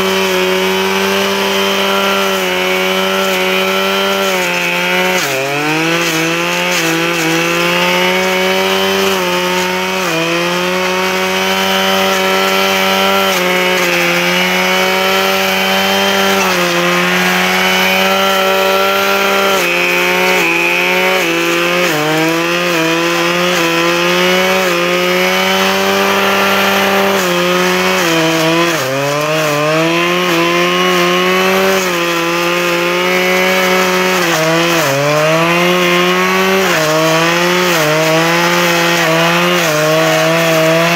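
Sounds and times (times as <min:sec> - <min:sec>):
brushcutter engine cutting brush: 0:00.0 - 0:40.9.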